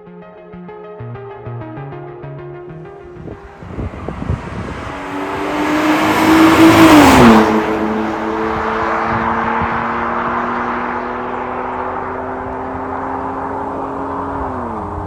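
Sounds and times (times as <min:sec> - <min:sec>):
car engine revving and idling: 0:02.8 - 0:15.0.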